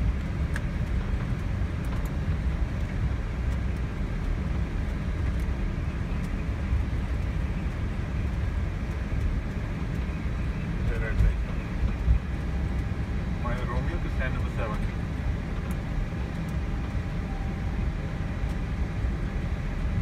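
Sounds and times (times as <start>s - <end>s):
airliner engines idling: 0.0s - 20.0s.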